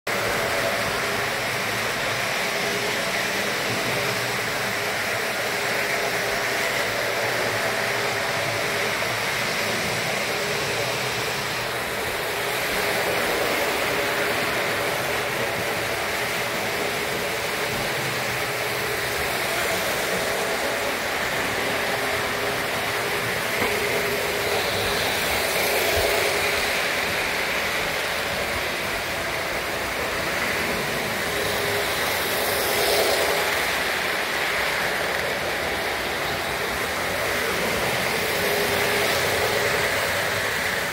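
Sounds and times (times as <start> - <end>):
model train motors whirring: 0.1 - 40.9.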